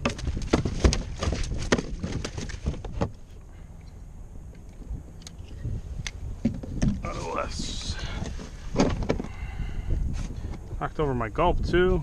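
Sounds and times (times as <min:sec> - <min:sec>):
wind and water noise: 0:00.0 - 0:12.0.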